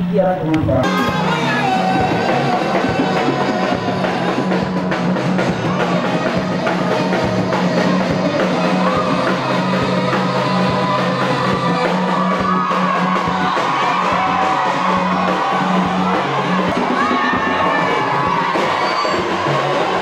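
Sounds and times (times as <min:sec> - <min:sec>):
low bass line: 0:00.0 - 0:18.5
band music: 0:00.0 - 0:20.0
drum kit beat: 0:00.6 - 0:20.0.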